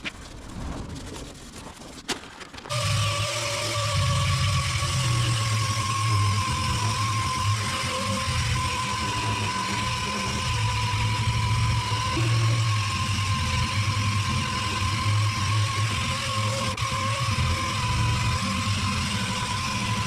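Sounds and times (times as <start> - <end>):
orbital sander sanding: 2.7 - 20.0.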